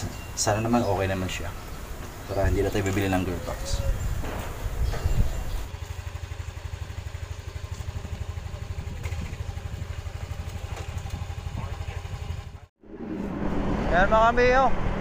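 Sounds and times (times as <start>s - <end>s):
scooter engine idling: 0.1s - 12.7s.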